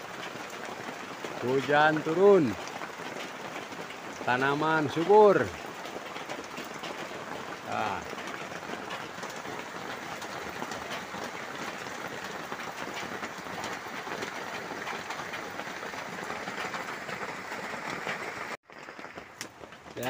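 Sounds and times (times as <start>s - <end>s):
light rain patter: 0.0s - 20.0s.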